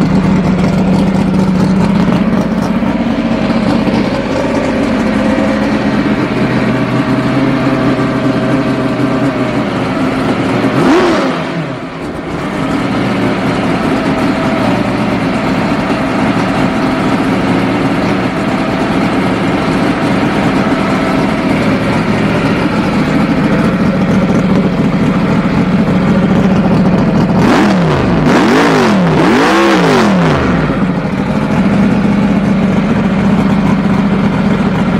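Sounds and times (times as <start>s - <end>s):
drag racing engine idling and revving: 0.0s - 34.9s.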